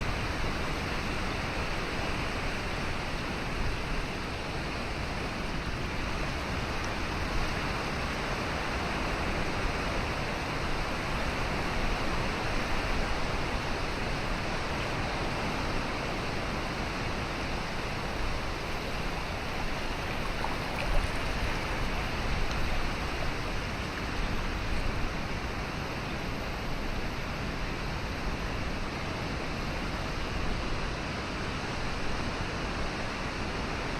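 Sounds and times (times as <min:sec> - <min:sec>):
flowing water rushing: 0:00.0 - 0:33.9.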